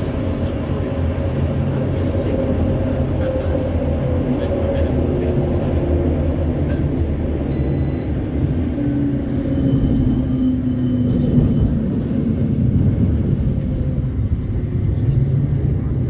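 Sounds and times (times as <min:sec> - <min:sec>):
tram wheels rumbling on rail: 0:00.0 - 0:16.0.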